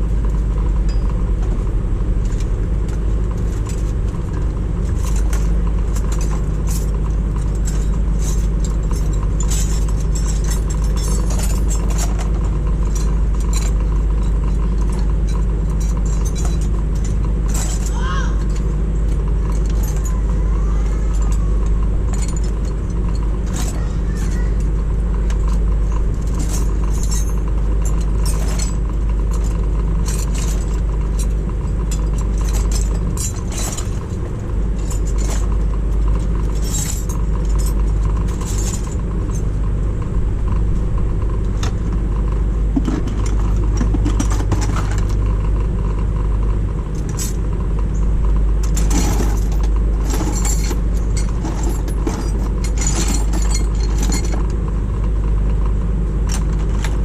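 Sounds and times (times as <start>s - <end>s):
steady low rumble: 0.0s - 57.0s
metallic clinks and clanks: 0.3s - 1.6s, 2.2s - 20.4s, 21.1s - 39.5s, 42.8s - 45.2s, 46.9s - 47.4s, 48.6s - 54.6s.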